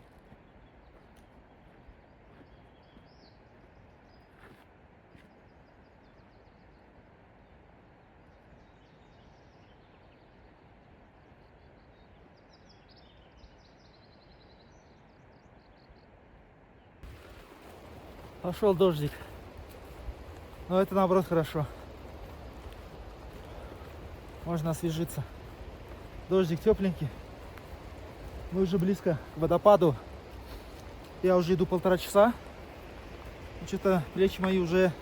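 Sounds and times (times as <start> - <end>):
small birds chirping: 0.0 - 16.2, 16.8 - 35.0.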